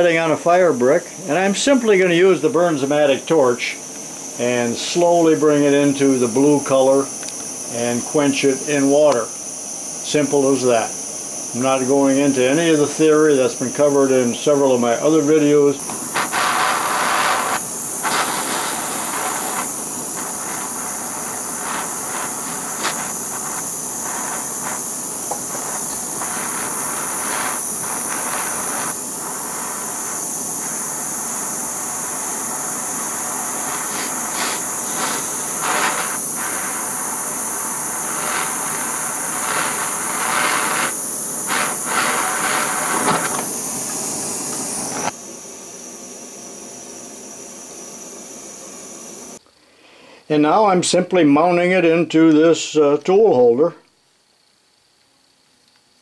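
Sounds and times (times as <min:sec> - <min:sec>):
propane torch hissing: 0:00.0 - 0:50.8.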